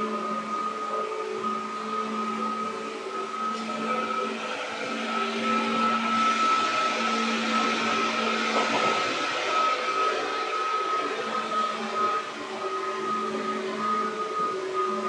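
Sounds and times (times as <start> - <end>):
train motor whine: 0.0 - 15.0
wheels rushing on rail: 1.6 - 15.0
train low hum: 2.6 - 14.8.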